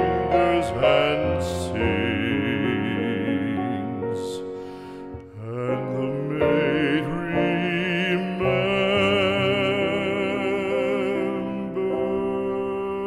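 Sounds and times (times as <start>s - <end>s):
classical singing with vibrato: 0.0s - 13.0s
musical accompaniment: 0.0s - 13.0s.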